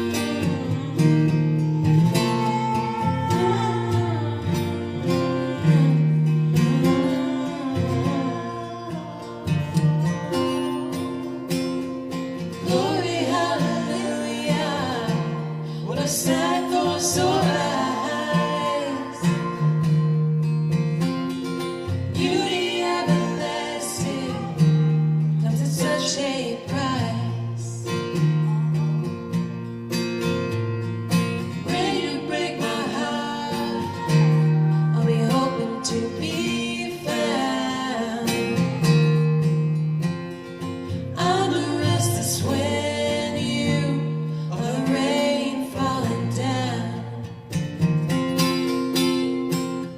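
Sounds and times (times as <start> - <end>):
person singing: 0.0 - 20.2, 21.8 - 28.8, 31.6 - 39.3, 41.2 - 47.2
guitar accompaniment: 0.0 - 49.9.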